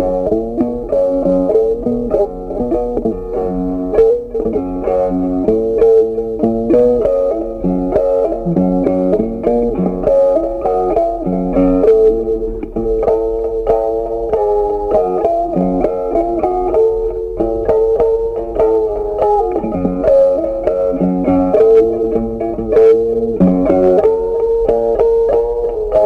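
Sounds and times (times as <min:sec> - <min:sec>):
plucked string melody: 0:00.0 - 0:26.0.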